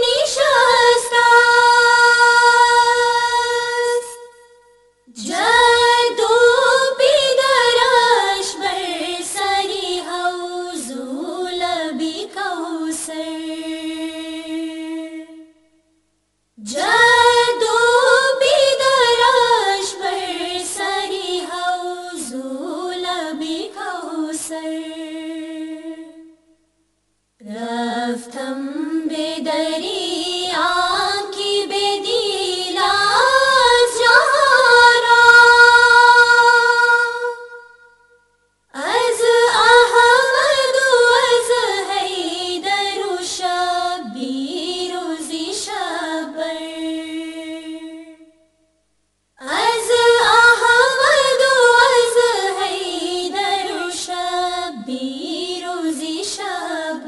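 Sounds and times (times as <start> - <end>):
person singing a hymn unaccompanied: 0.0 - 4.4, 5.0 - 15.6, 16.6 - 26.4, 27.4 - 37.9, 38.7 - 48.4, 49.4 - 57.0.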